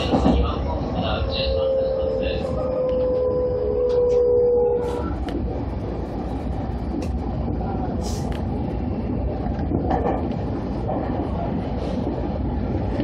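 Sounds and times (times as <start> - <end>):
train motors and wheels rumbling: 0.0 - 13.0.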